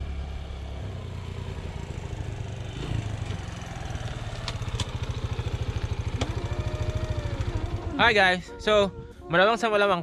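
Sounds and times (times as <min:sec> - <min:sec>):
small engine running: 0:00.0 - 0:09.0.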